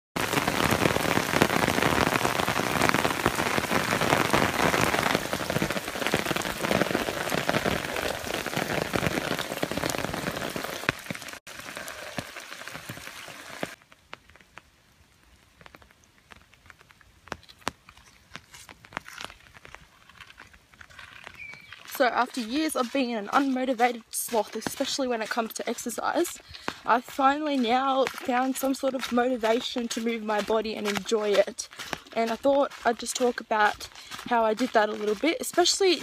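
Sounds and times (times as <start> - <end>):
rain falling: 0.2 - 36.0.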